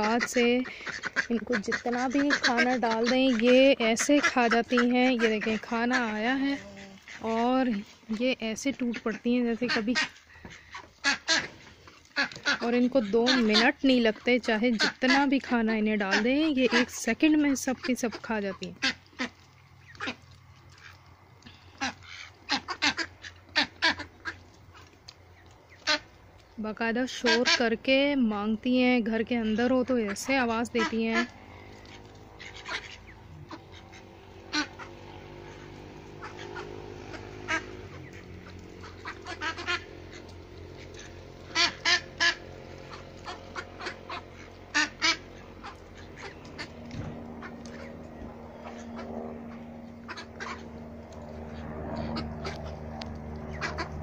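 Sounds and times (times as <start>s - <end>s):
ducks quacking: 0.0s - 28.2s, 28.8s - 54.0s.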